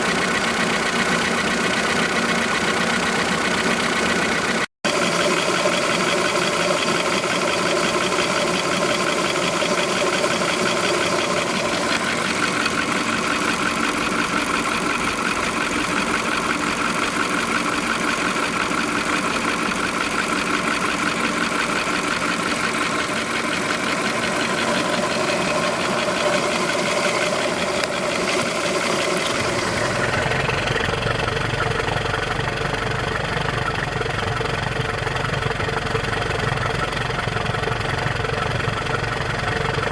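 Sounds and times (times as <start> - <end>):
car engine idling: 0.0 - 39.9
fast steady clicking: 0.0 - 39.9.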